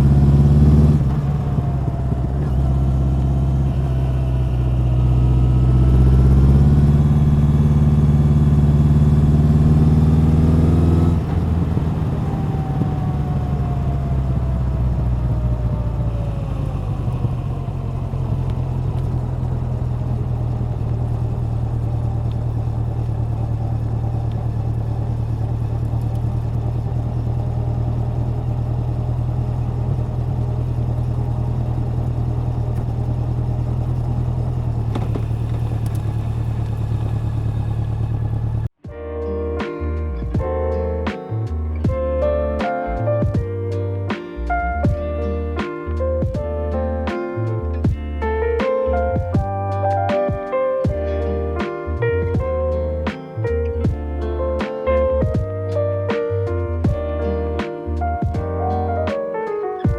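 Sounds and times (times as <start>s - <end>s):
motorcycle engine and exhaust: 0.0s - 38.8s, 47.1s - 57.2s.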